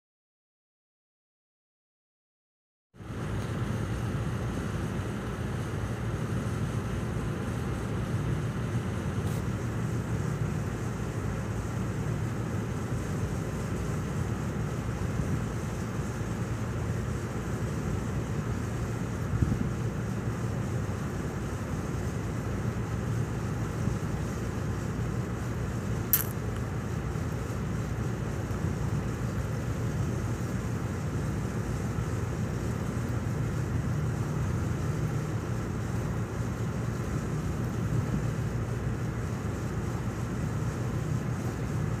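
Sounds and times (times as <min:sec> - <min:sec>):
cargo ship engine drone: 0:03.0 - 0:42.0.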